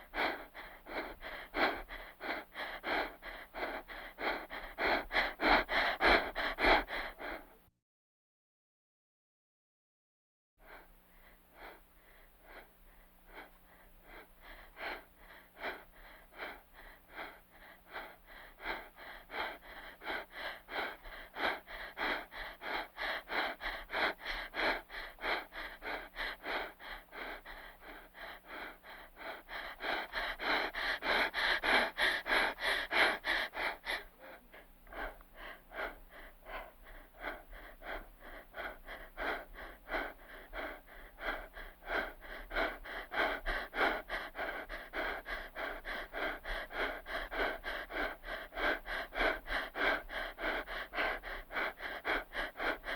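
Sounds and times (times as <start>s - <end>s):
person breathing fast and hard: 0.0s - 7.7s, 10.6s - 52.9s.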